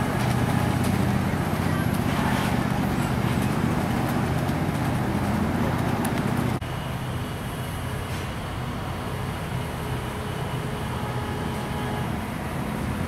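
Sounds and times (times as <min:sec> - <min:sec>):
low engine hum: 0:00.0 - 0:13.0
road traffic noise: 0:00.0 - 0:13.0.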